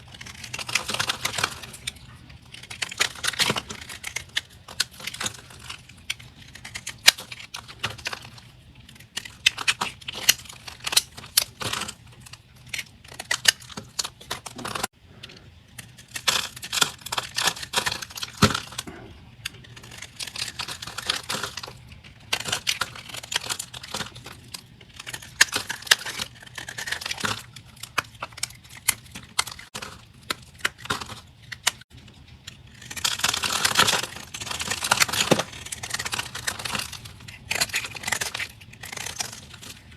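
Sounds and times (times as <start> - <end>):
blade crunching through soap: 0.0 - 39.9.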